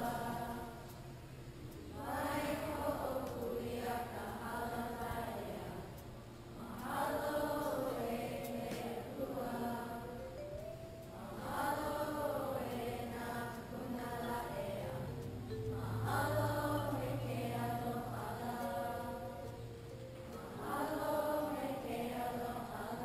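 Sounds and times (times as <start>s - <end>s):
choir-like sustained chords: 0.0s - 23.0s.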